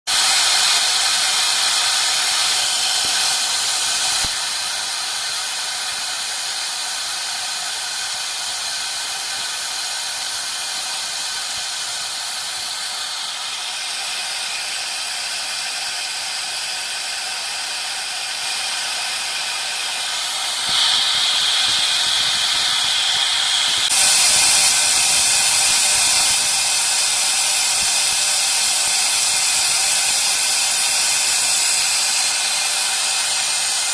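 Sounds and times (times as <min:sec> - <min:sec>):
engraving spindle whining: 0:00.1 - 0:33.9.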